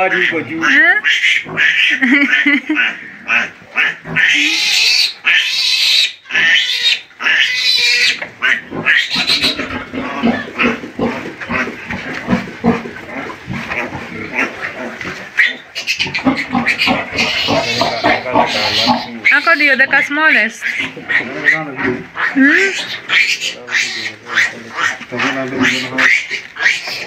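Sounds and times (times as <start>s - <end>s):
piglets grunting: 0.0s - 27.0s
piglets squealing: 0.0s - 27.0s.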